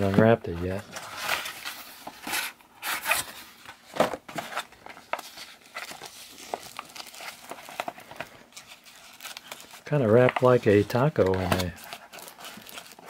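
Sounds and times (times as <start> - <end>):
foil paper wrapping crinkling: 0.0 - 13.0.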